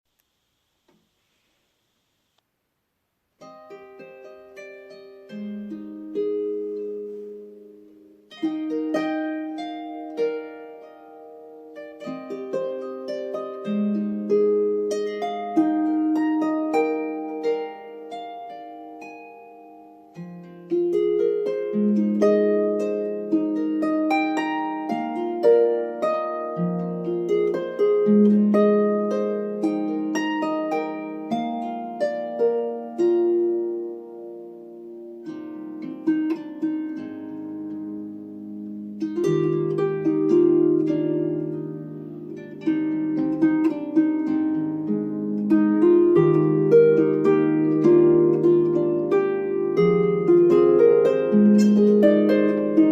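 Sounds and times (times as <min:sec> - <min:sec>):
harp playing: 0:03.4 - 0:52.9.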